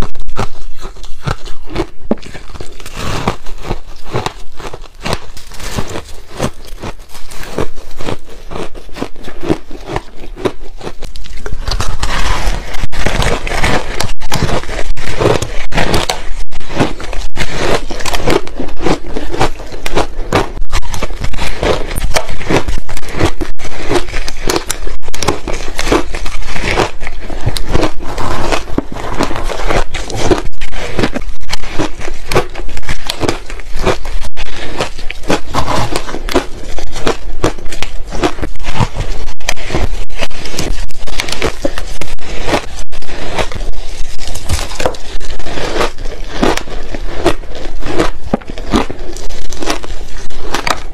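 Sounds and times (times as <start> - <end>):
crunching ice: 0.0 - 50.9.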